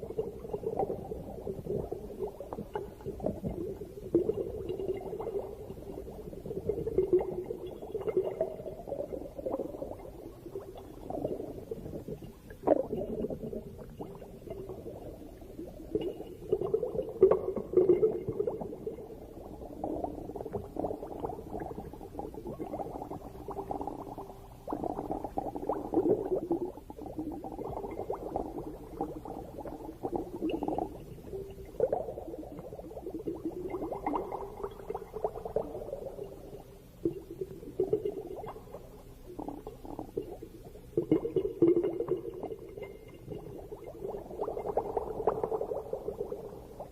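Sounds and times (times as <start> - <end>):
underwater bubbling and gurgling: 0.0 - 46.9.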